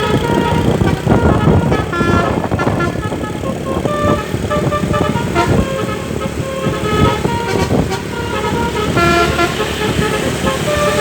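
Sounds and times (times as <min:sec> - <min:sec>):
multi-tone vehicle horn tune: 0:00.0 - 0:11.0.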